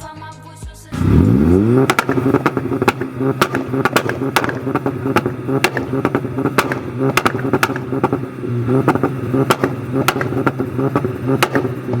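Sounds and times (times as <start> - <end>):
car engine running: 1.0 - 12.0
sharp cracks: 1.0 - 12.0.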